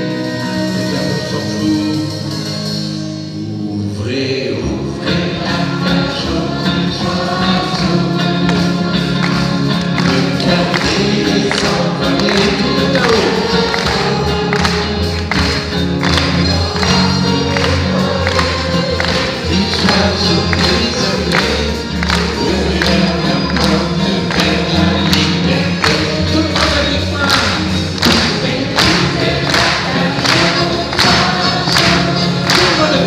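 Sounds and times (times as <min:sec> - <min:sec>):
electric guitar: 0:00.0 - 0:33.0
people singing: 0:03.4 - 0:33.0
steady beat: 0:06.4 - 0:33.0.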